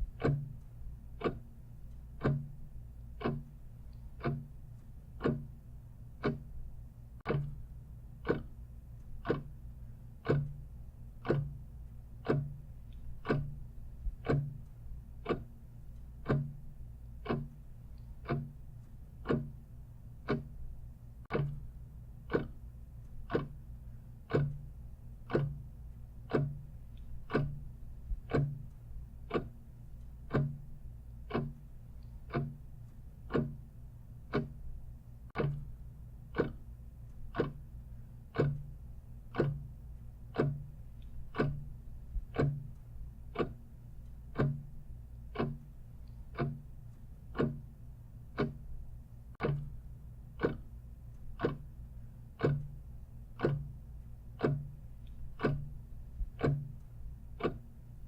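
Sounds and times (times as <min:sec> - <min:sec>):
clock ticking: 0:00.0 - 0:58.0
low steady hum: 0:00.0 - 0:58.0.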